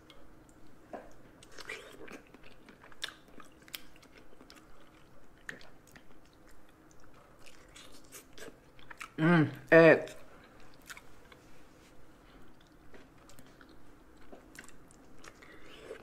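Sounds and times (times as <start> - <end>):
person chewing and biting: 1.1 - 9.2, 10.1 - 11.4, 12.5 - 16.0.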